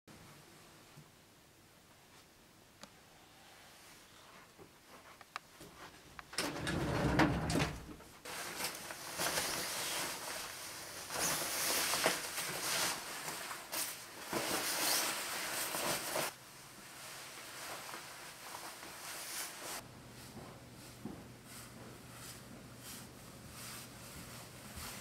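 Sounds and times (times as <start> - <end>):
clothing rustling: 4.2 - 25.0.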